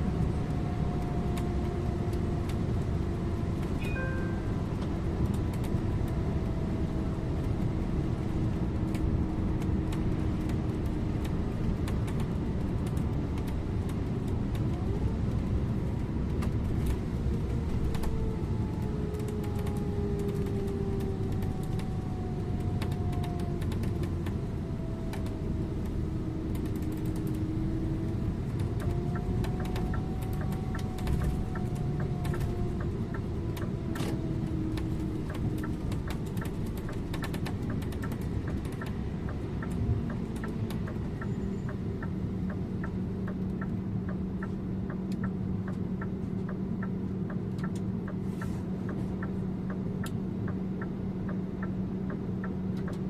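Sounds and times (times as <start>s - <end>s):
bus engine rumble: 0.0s - 53.0s
drivetrain whine: 0.0s - 53.0s.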